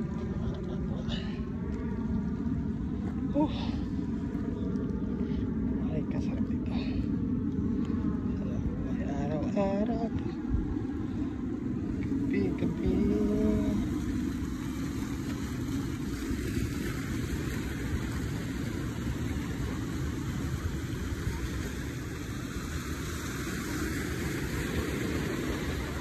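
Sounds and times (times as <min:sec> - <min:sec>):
waves washing over boulders: 0:00.0 - 0:26.0.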